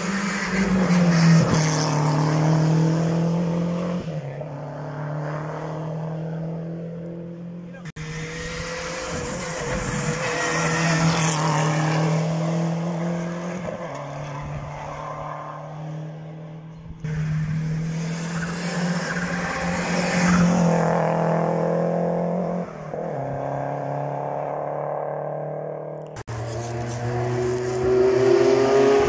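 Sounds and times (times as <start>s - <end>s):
rally car engines at high revs: 0.0s - 29.0s.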